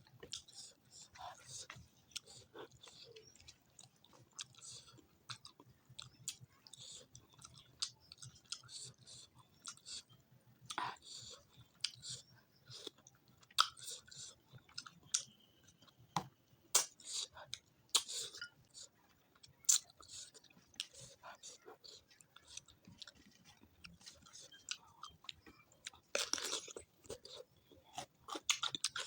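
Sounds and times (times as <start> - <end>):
open-mouth chewing: 0.2 - 16.0, 16.7 - 29.0.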